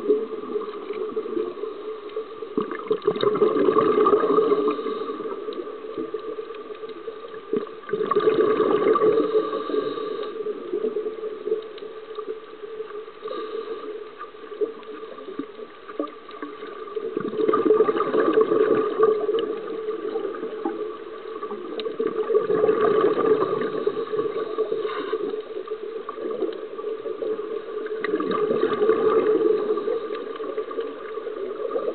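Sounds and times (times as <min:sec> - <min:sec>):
underwater bubbling: 0:00.0 - 0:31.9.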